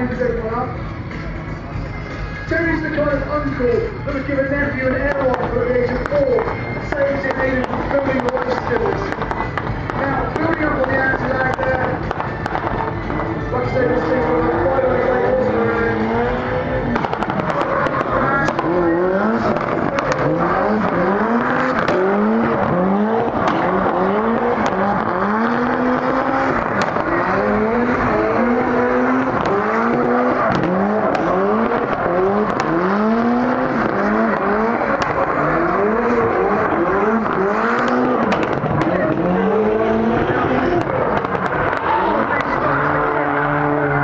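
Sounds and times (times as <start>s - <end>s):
car engine revving: 0.0s - 44.0s
exhaust pops and crackles: 4.2s - 44.0s.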